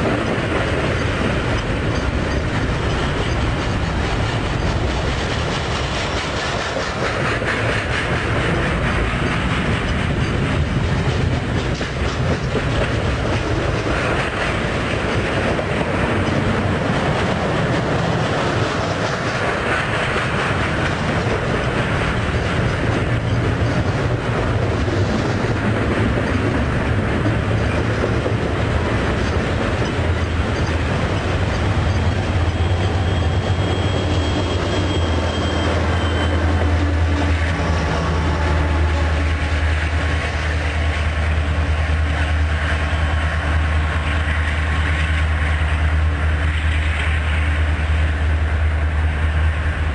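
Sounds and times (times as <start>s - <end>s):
train wheels clacking on rails: 0.0s - 49.9s.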